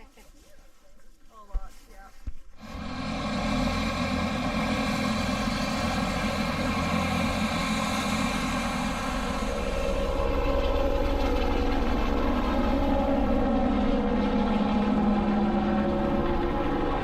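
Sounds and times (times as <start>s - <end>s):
helicopter engine and rotor: 2.6s - 17.0s.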